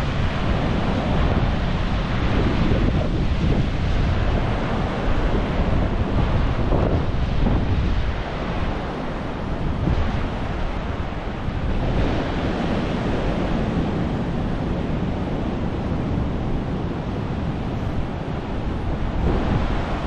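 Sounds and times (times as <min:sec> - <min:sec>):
ocean surf breaking: 0:00.0 - 0:20.0
wind buffeting the microphone: 0:00.0 - 0:20.0.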